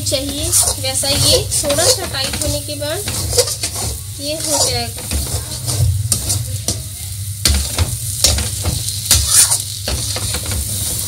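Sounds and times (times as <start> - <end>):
frying hiss: 0.0 - 11.0
metal spoon scraping a pan: 0.0 - 11.0.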